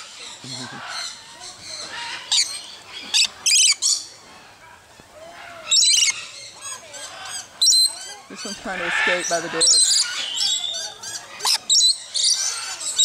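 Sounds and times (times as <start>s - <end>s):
parrots squawking: 0.2s - 4.0s, 5.3s - 13.0s.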